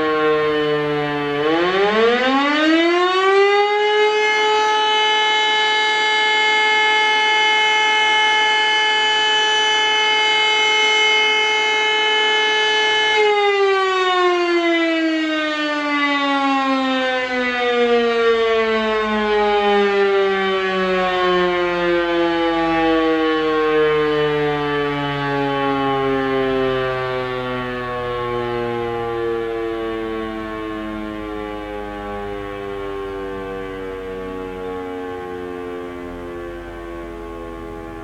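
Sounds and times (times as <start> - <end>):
electric motor siren winding down: 0.0 - 38.0.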